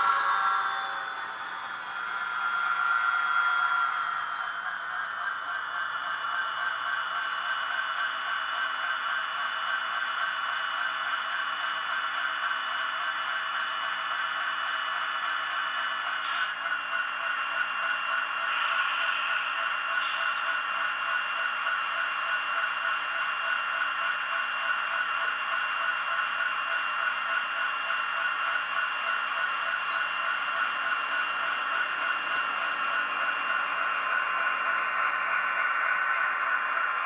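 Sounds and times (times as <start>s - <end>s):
model train whine and buzz: 0.0s - 37.0s.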